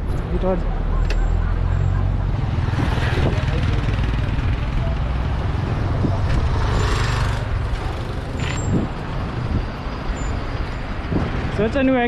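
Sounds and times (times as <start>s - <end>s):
engine rumble: 0.0s - 11.5s
street traffic: 0.0s - 12.0s.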